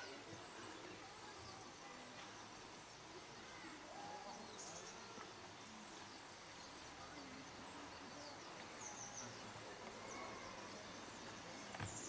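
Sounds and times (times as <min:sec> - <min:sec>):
faint high bird chirps: 0:00.0 - 0:12.0.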